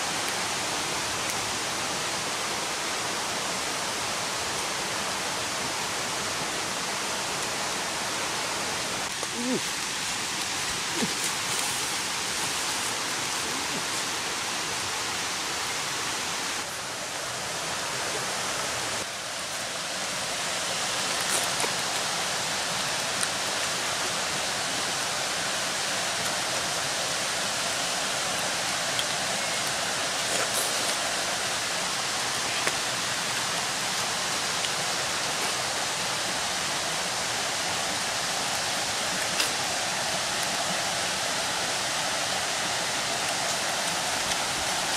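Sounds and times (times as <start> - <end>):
forest stream rushing: 0.0 - 44.9.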